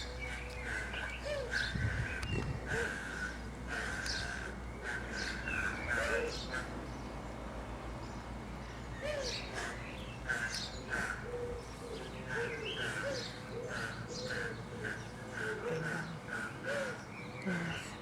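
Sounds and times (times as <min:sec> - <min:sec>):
birds calling: 0:00.0 - 0:07.2, 0:08.1 - 0:18.0.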